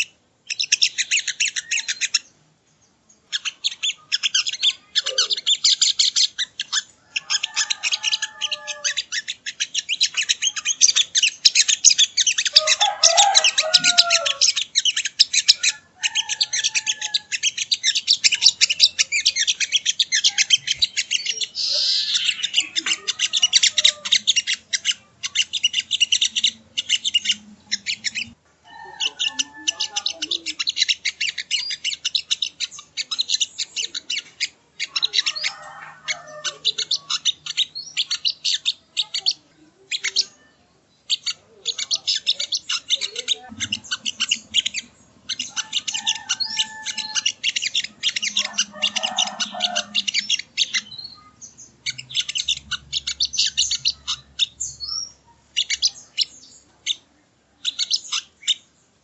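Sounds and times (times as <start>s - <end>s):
songbird chirping rapidly: 0.0s - 59.0s.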